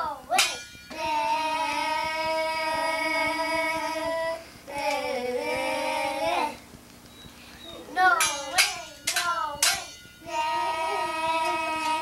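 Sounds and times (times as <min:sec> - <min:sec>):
child singing long notes: 0:00.9 - 0:06.7, 0:07.9 - 0:12.0.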